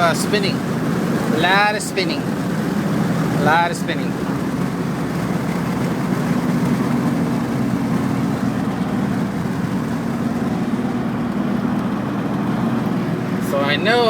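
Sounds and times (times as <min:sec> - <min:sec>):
truck engine droning: 0:00.0 - 0:14.0.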